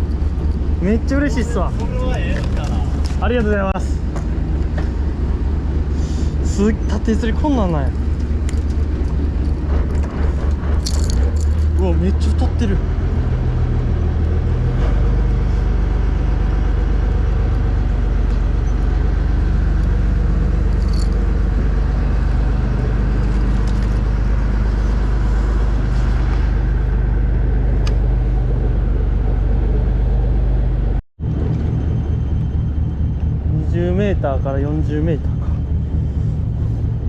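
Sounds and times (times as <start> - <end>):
boat engine rumbling: 0.0 - 37.0.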